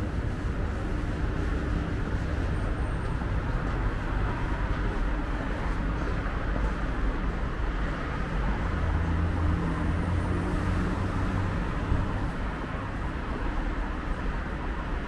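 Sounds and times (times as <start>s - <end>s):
city street traffic: 0.0s - 15.0s
vehicle engine hum: 0.0s - 15.0s.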